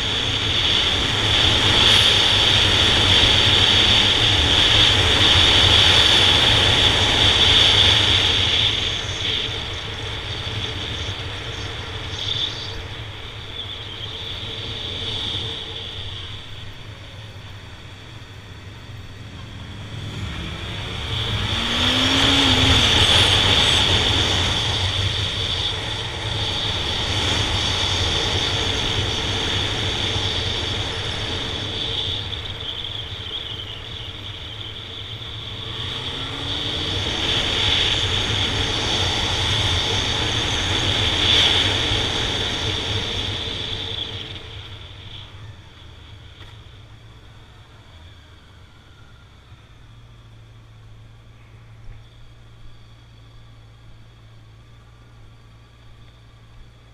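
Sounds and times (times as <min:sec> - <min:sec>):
motorcycle engine at speed: 0:00.0 - 0:56.9
wind and road noise: 0:00.0 - 0:56.9.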